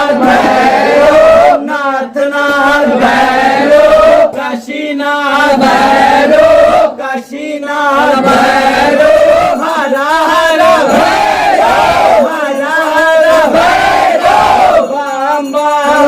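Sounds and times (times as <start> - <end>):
male voices chanting: 0.0 - 16.0.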